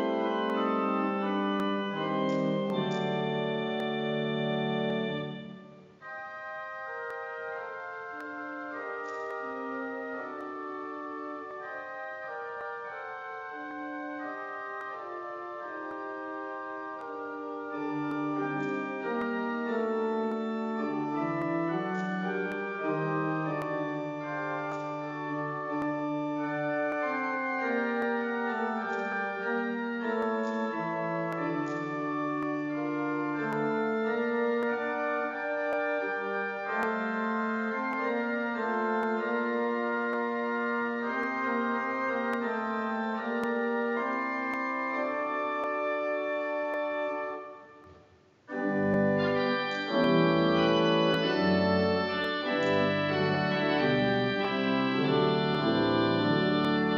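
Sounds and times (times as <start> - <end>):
church organ playing chords: 0.0 - 56.9.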